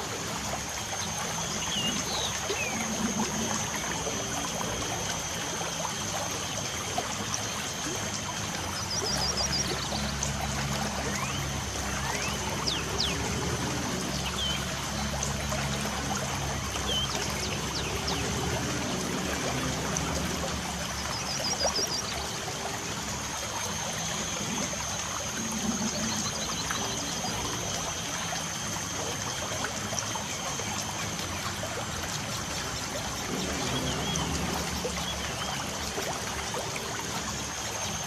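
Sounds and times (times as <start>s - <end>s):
trickling running water: 0.0s - 38.0s.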